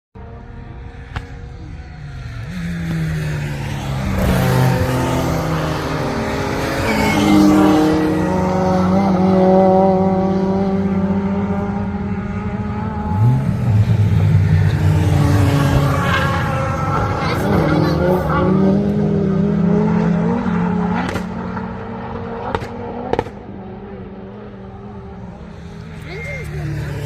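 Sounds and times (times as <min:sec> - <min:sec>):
car engine accelerating: 0:00.2 - 0:27.0
race car engines driving past: 0:00.2 - 0:27.0.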